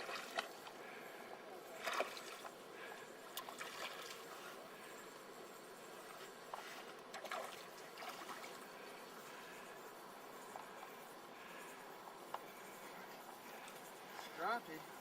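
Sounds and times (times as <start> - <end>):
water lapping and trickling: 0.0 - 15.0.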